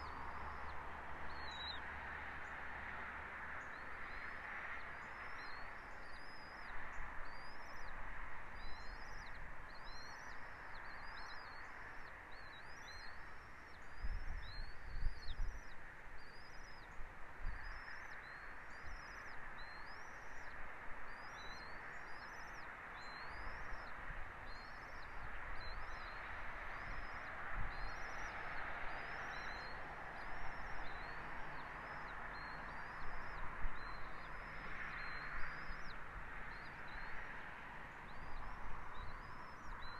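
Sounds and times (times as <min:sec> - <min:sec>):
bird chirping: 0:00.0 - 0:02.6, 0:08.6 - 0:37.2, 0:37.9 - 0:39.9.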